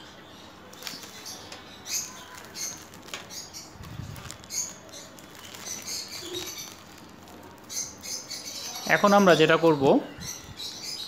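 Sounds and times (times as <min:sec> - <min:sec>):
plastic crinkle: 0:00.6 - 0:11.0
plastic packaging rustling: 0:00.6 - 0:11.0.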